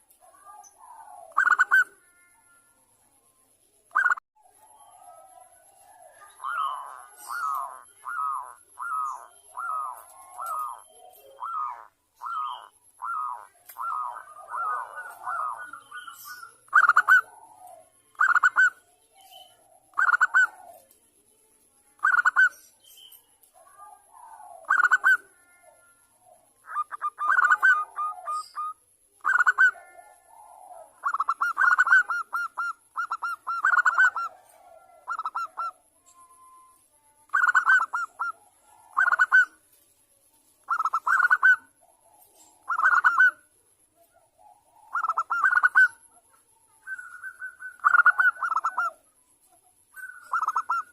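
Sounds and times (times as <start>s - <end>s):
dove cooing: 0.0s - 2.6s, 3.9s - 21.0s, 22.0s - 22.6s, 23.5s - 39.6s, 40.6s - 49.2s, 49.9s - 50.9s.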